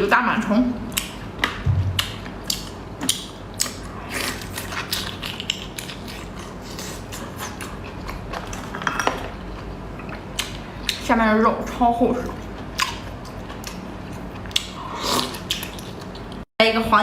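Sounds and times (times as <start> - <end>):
person chewing wetly: 0.9 - 11.0, 12.3 - 16.4.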